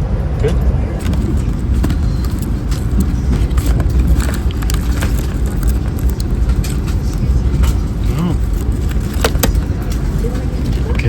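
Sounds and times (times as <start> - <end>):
train rumbling: 0.0 - 11.0
light clicks and rattles: 1.0 - 11.0.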